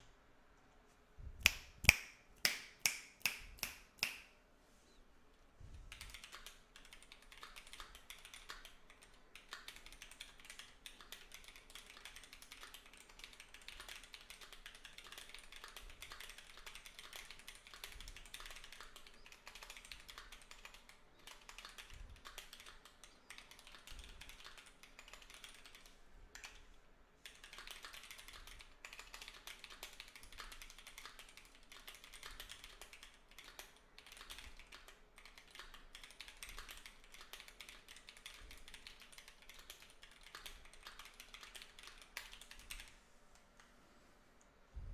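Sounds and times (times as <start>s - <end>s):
mechanical keyboard typing: 5.9s - 26.6s, 27.2s - 43.0s.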